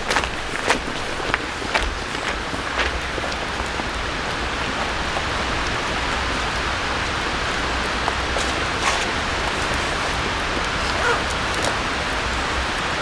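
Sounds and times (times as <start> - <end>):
rain falling on a tent: 0.0 - 13.0.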